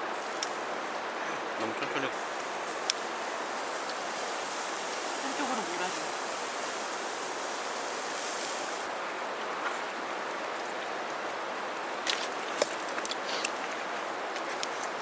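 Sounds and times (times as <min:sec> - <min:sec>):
high hiss: 0:00.0 - 0:12.4.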